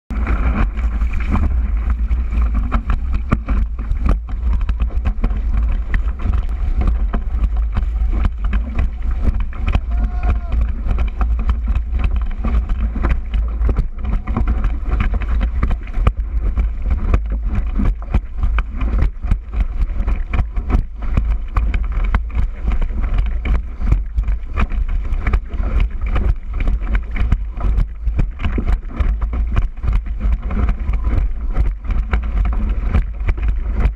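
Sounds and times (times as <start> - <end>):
board knocking and splashing: 0.1 - 33.9
water rushing and spraying: 0.1 - 33.9
wind buffeting microphone: 0.1 - 33.9.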